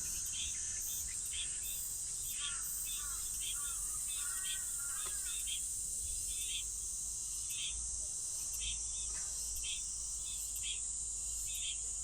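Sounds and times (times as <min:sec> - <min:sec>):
insects droning and chirping: 0:00.0 - 0:12.0.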